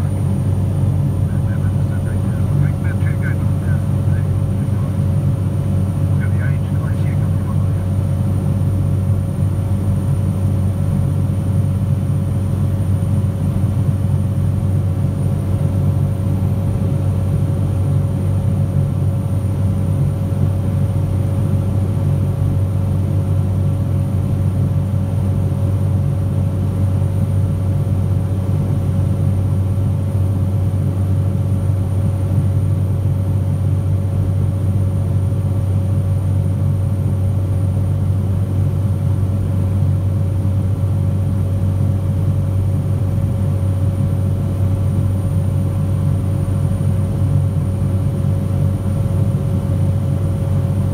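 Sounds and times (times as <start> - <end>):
light aircraft engine drone: 0.0 - 50.9.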